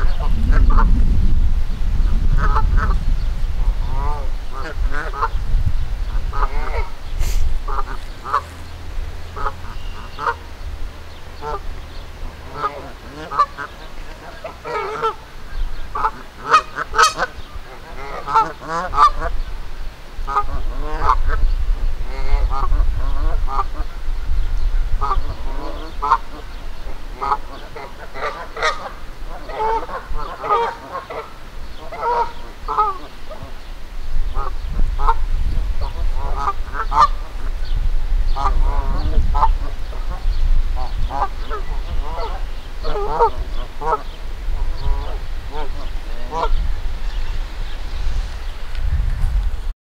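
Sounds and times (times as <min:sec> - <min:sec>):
geese honking: 0:02.4 - 0:03.0, 0:03.6 - 0:05.4, 0:06.0 - 0:24.0, 0:25.0 - 0:33.7, 0:34.3 - 0:48.7.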